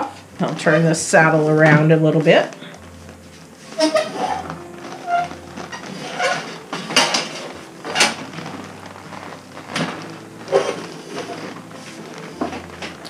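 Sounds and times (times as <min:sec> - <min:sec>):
saddle knocks and clicks: 0:00.0 - 0:13.0.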